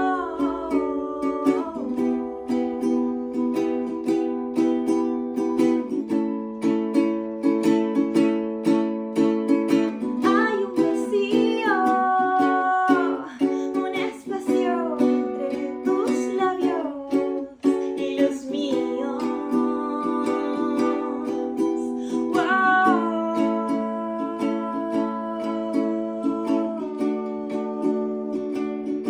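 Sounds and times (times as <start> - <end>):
woman singing wordless melody: 0.0 - 4.8, 9.7 - 29.0
acoustic string instrument strumming: 0.0 - 29.0.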